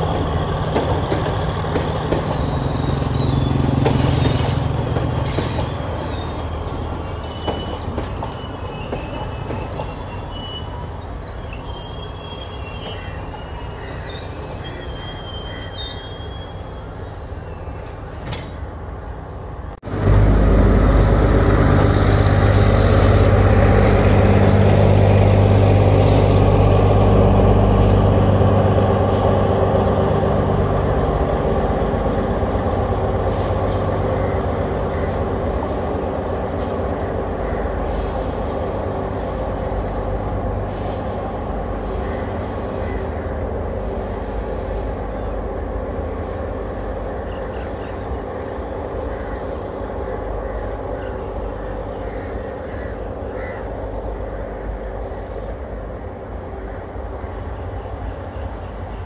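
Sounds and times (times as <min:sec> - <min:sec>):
train engine hum: 0:00.0 - 0:59.0
train wheels rumbling on rails: 0:00.0 - 0:59.0.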